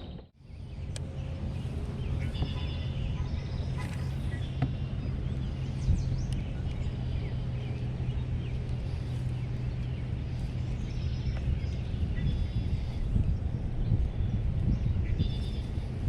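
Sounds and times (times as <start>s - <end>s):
low hum: 0.0s - 16.0s
small birds chirping: 0.4s - 16.0s.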